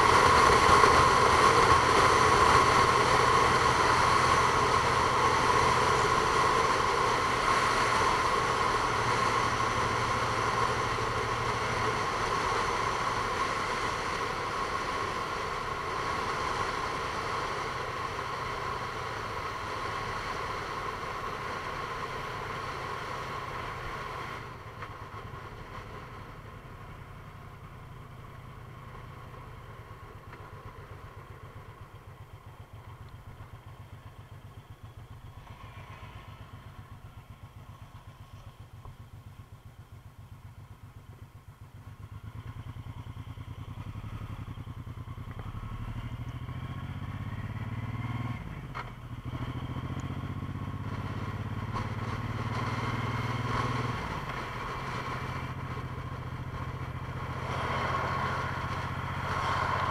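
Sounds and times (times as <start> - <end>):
vehicle engine accelerating: 0.0 - 39.6, 40.3 - 59.9.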